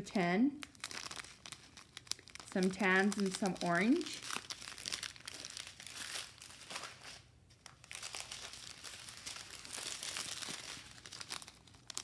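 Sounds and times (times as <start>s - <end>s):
plastic bags crinkling: 0.6s - 12.0s.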